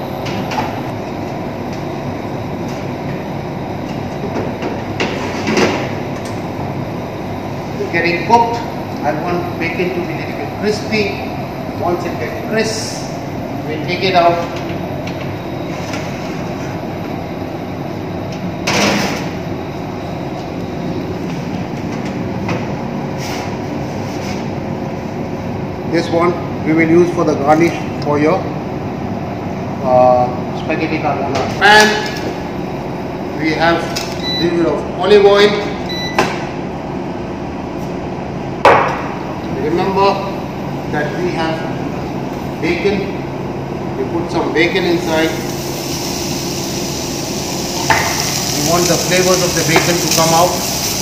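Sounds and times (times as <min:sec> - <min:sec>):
steady rumbling background noise: 0:00.0 - 0:51.0.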